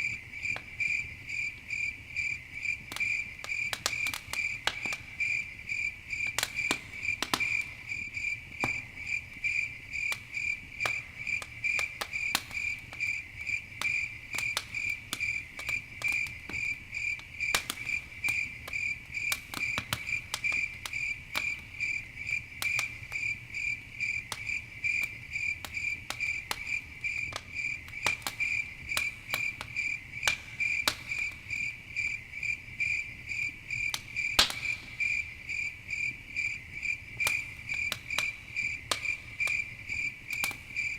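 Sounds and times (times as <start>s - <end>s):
campfire crackling and popping: 0.0s - 40.9s
crickets chirping: 0.0s - 40.9s.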